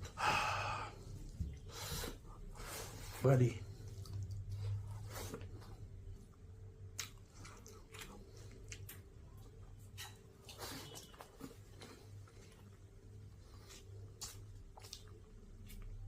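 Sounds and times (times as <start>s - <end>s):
chewing fried pork: 0.9s - 16.0s.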